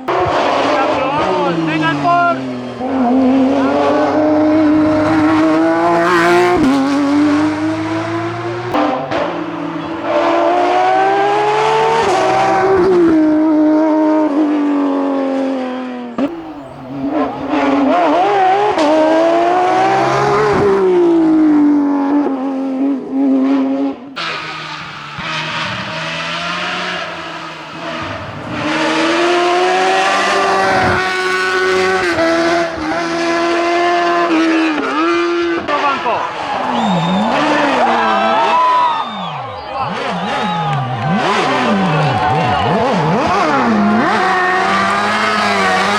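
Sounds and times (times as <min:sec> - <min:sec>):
racing cars at full throttle: 0:00.0 - 0:45.9.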